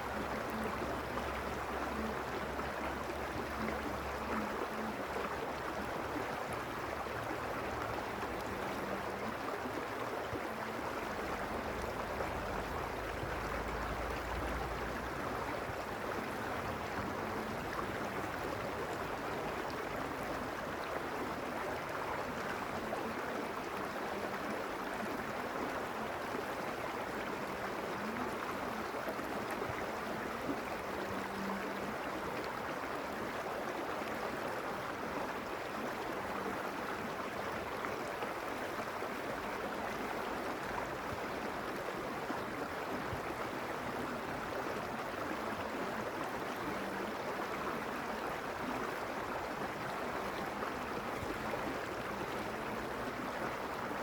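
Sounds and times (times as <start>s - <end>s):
stream rushing over stones: 0.0s - 54.0s.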